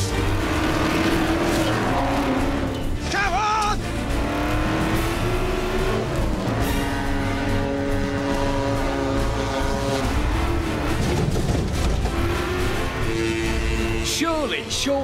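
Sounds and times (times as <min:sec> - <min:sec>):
background music: 0:00.0 - 0:15.0
engine revving: 0:00.0 - 0:15.0.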